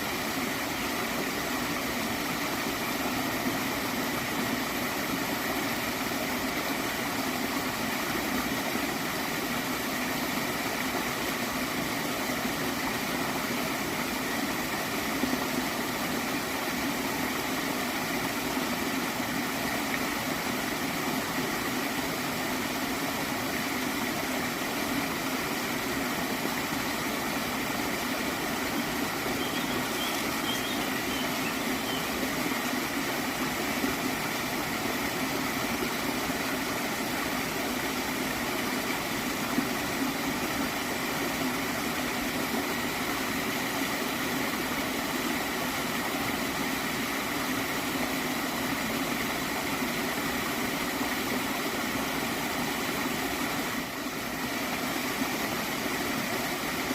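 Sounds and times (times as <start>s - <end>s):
small stream gurgling: 0.0s - 56.9s.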